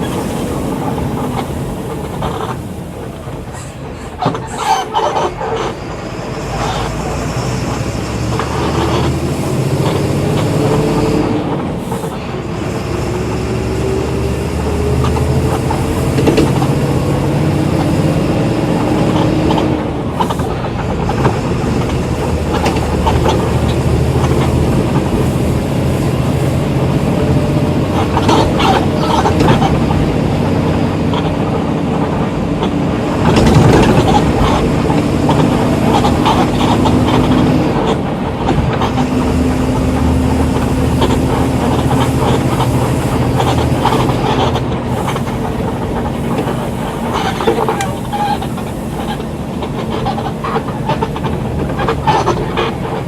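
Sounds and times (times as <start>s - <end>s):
bus body rattling: 0.0s - 53.0s
bus engine whine: 0.0s - 53.0s.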